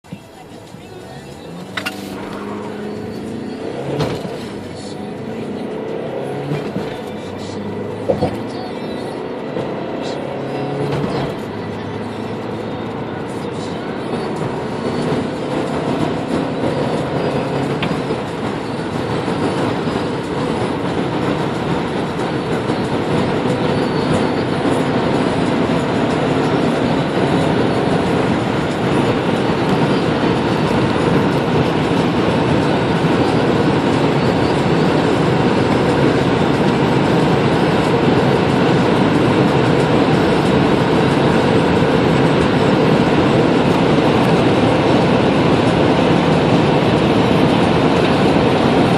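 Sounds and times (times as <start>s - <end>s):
diesel engine accelerating: 0.0s - 48.9s
road and wind noise: 0.0s - 48.9s.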